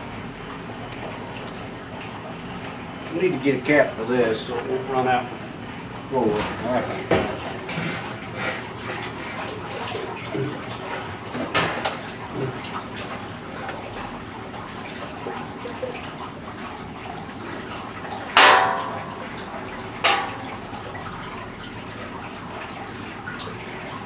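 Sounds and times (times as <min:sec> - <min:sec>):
water running and splashing in barrel: 0:00.0 - 0:24.0.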